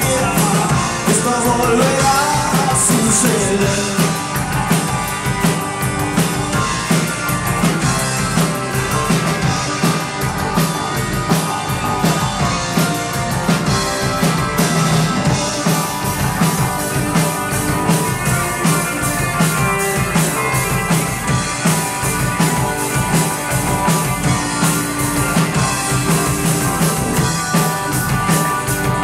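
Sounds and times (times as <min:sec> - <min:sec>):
drum kit steady beat: 0:00.0 - 0:29.0
live rock band: 0:00.0 - 0:29.0.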